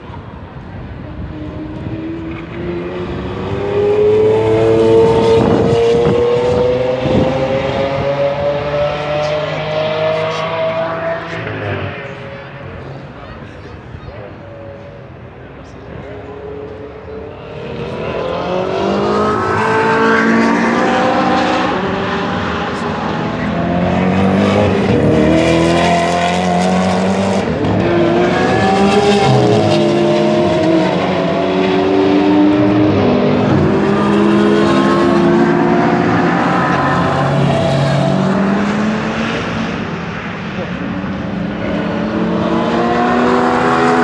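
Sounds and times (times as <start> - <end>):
car engines revving hard: 0.0 - 44.0.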